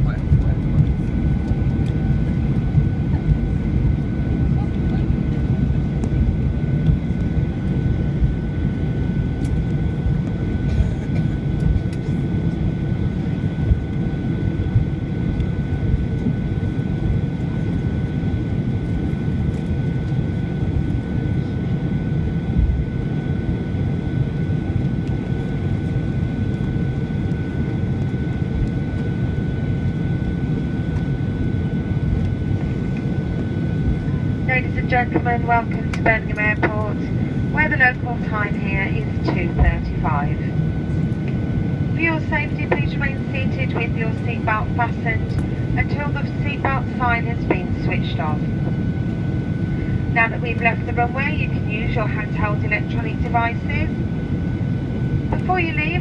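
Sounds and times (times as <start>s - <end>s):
faint steady whine: 0.0s - 56.0s
jet engines running at low power: 0.0s - 56.0s.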